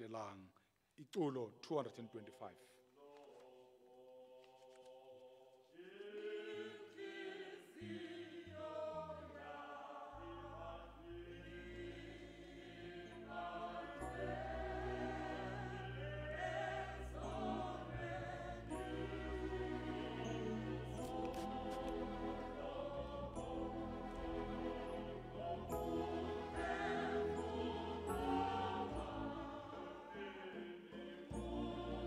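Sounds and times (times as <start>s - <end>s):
choir singing a hymn: 3.0s - 32.0s.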